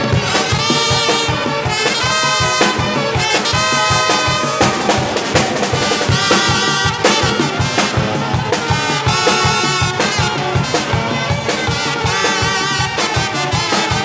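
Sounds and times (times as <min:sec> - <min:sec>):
drum kit fast beat: 0:00.0 - 0:14.0
trumpets and saxophones playing: 0:00.0 - 0:14.0.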